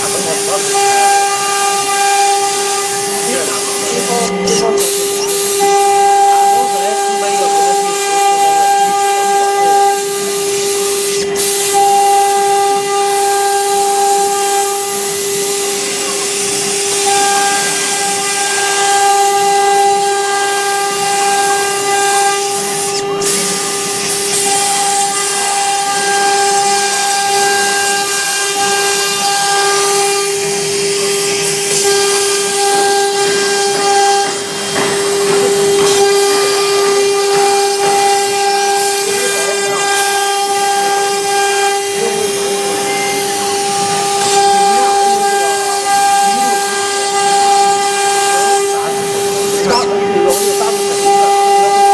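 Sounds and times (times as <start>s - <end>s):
router spindle whine: 0.0s - 51.9s.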